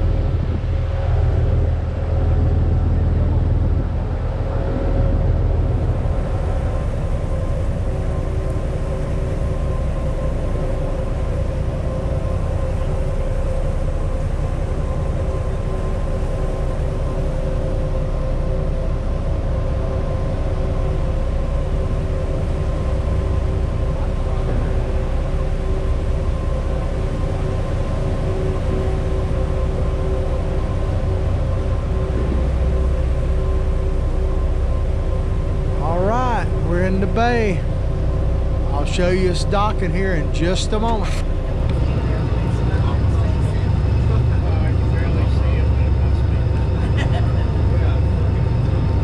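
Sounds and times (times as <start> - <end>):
boat engines rumbling: 0.0 - 49.0.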